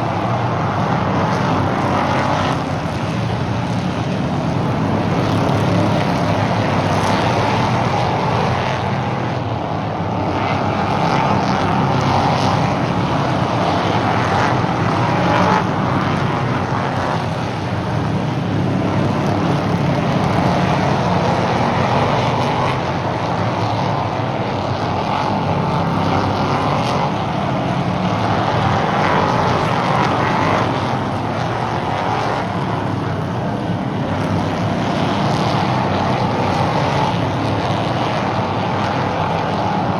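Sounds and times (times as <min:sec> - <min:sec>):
race car engines droning: 0:00.0 - 0:39.9.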